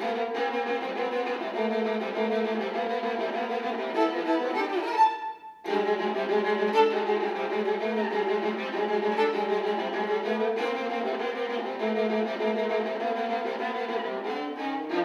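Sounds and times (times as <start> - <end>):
bowed viola: 0.0 - 15.0.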